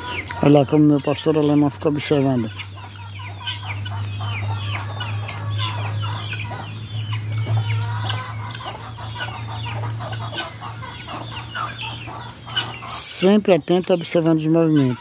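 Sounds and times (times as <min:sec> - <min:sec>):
chickens and guinea fowl clucking: 0:00.0 - 0:15.0.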